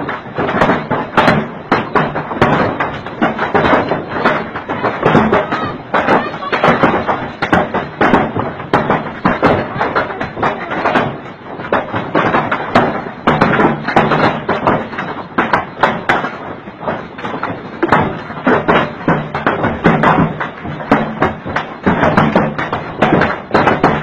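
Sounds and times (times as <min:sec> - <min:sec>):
hailstones pelting down: 0:00.0 - 0:24.0.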